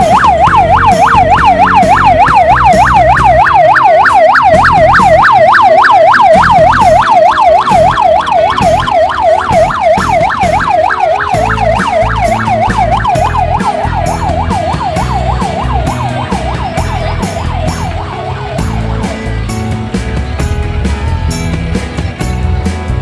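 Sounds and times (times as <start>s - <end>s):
electronic siren yelping: 0.0s - 19.3s.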